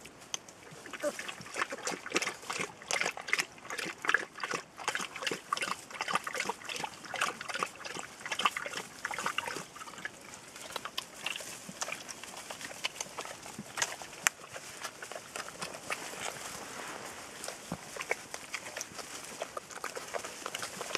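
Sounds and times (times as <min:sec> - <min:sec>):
dog lapping water: 0:00.6 - 0:20.9
puppies suckling: 0:00.6 - 0:20.9.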